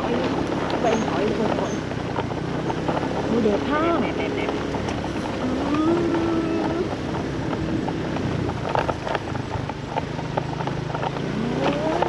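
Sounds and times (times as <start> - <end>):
bike knocking and rattling: 0.0 - 12.0
motorbike engine running: 0.0 - 12.0.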